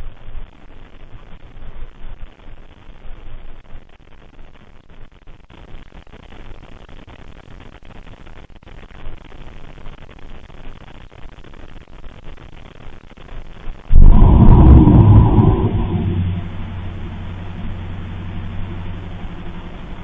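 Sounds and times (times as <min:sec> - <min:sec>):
recording hiss and static: 0:00.0 - 0:20.0.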